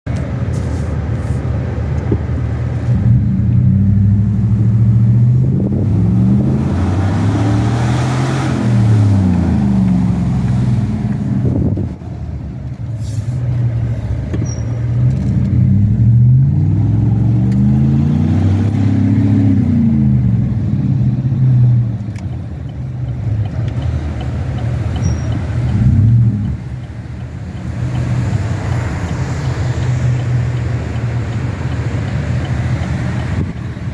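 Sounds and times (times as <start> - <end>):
truck engine accelerating: 0.1 - 33.9.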